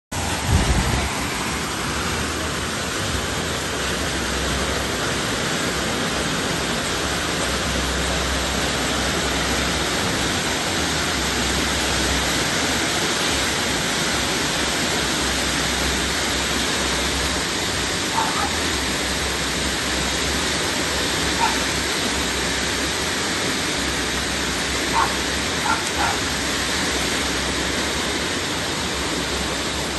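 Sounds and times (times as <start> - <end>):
fountain firework hissing: 0.1 - 29.9.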